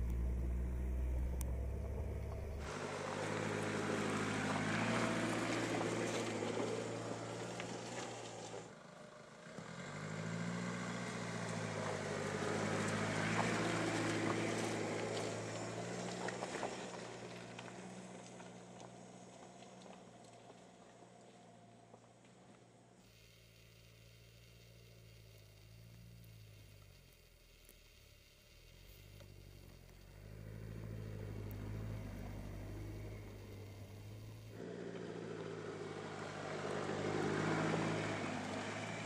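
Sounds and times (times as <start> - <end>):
car engine driving: 0.0 - 39.0
tyres on loose gravel: 1.8 - 39.0.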